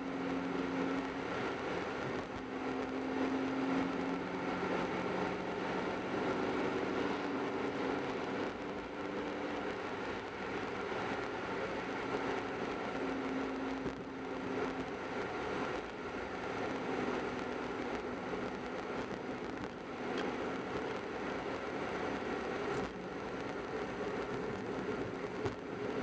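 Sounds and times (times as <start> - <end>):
low engine hum: 0.0 - 26.0
tyre and road noise: 0.0 - 26.0.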